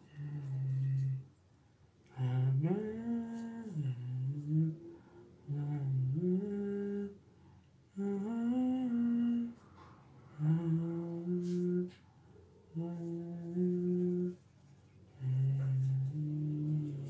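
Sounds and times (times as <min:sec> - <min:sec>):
man humming a slow tune: 0:00.0 - 0:01.3, 0:02.1 - 0:07.2, 0:07.9 - 0:12.0, 0:12.7 - 0:14.4, 0:15.1 - 0:17.0.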